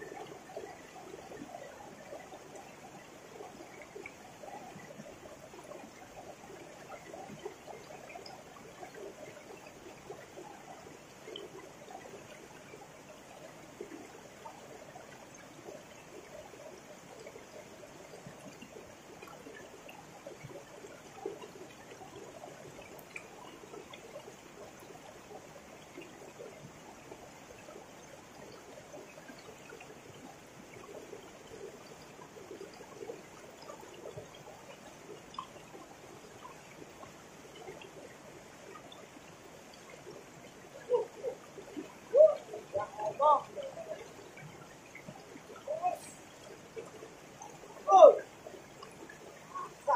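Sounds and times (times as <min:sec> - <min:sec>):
small river flowing: 0:00.0 - 0:49.9.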